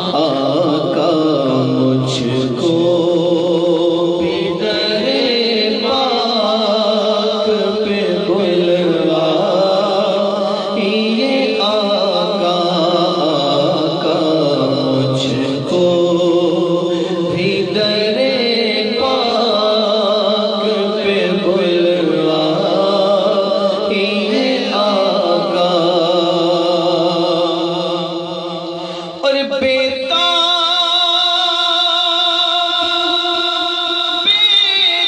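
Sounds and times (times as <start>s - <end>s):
man singing into a microphone: 0.0s - 35.0s.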